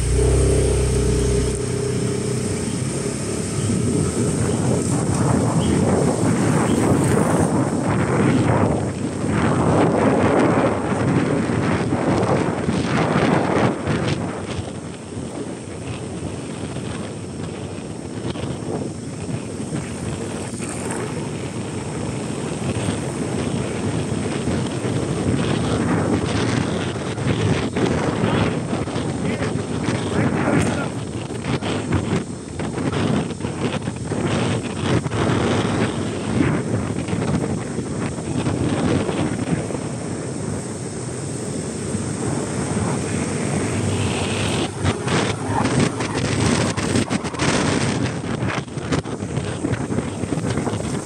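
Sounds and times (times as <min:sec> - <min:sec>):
scooter engine running: 0:00.0 - 0:12.8, 0:14.5 - 0:32.6, 0:37.4 - 0:51.0
wind on microphone: 0:00.0 - 0:51.0.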